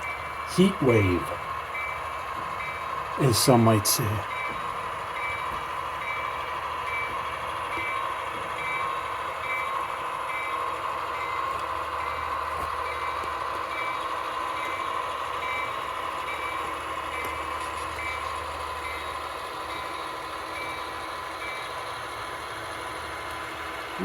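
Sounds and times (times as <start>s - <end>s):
low diesel hum: 0.0s - 24.0s.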